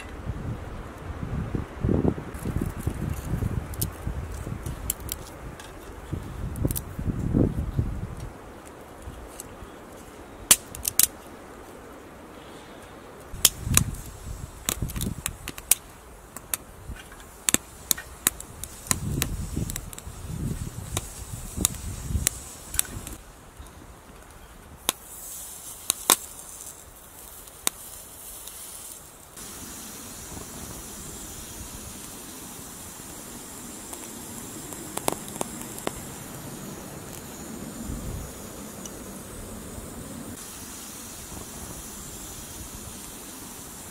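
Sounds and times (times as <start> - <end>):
fire hissing: 0.1 - 43.9
wood fire crackling and popping: 2.3 - 7.4, 8.1 - 11.8, 13.3 - 43.9.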